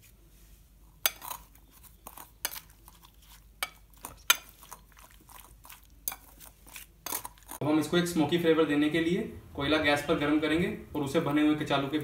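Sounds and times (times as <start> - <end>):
soft wet mixing: 0.0 - 12.0.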